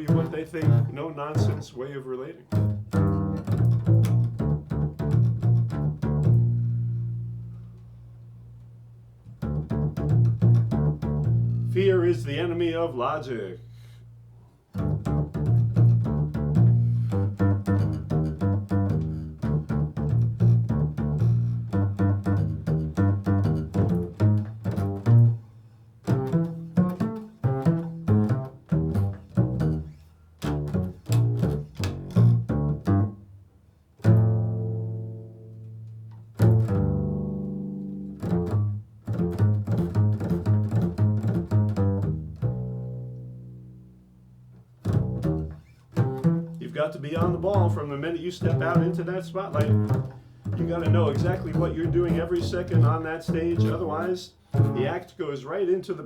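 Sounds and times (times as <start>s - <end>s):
plucked bass string instrument: 0.0s - 1.9s, 2.5s - 56.0s.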